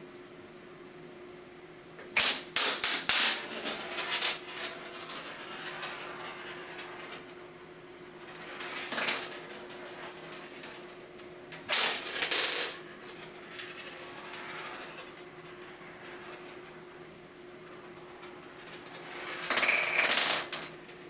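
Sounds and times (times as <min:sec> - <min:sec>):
ball rolling and rattling: 0:02.0 - 0:21.0.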